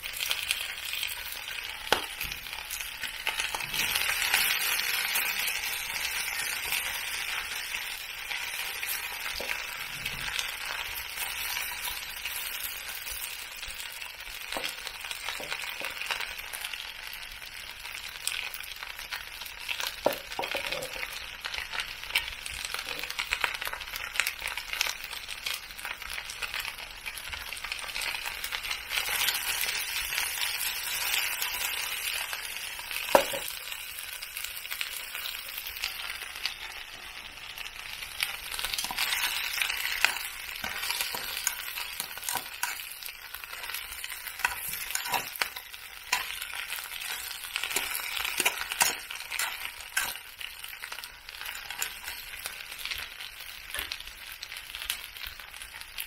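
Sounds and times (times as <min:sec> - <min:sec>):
food sizzling in a frying pan: 0:00.0 - 0:56.0.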